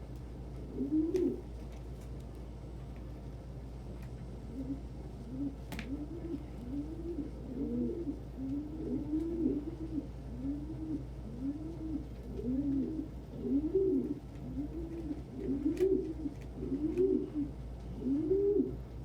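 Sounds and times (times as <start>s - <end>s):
pigeons cooing: 0.5s - 1.5s, 4.4s - 19.0s.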